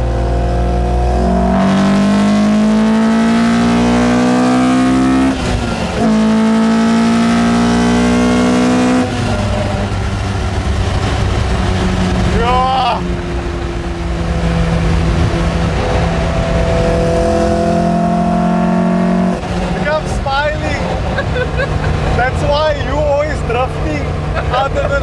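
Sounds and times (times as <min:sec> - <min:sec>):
car engine revving under full throttle: 0:00.0 - 0:25.0.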